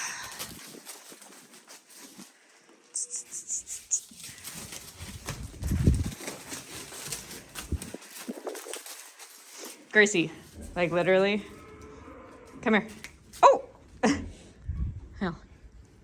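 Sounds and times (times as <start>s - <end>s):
hooves clicking: 0.0s - 13.9s
calves shuffling: 0.0s - 14.6s.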